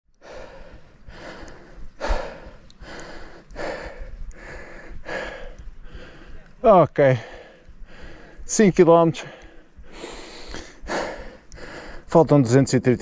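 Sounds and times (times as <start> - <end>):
cyclist breathing hard: 0.1 - 12.1.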